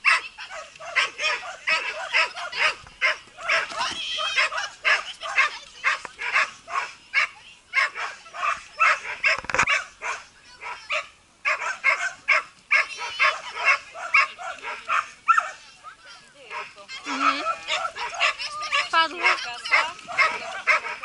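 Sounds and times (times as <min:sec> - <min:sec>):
dog barking: 0:00.0 - 0:15.7, 0:16.5 - 0:21.0.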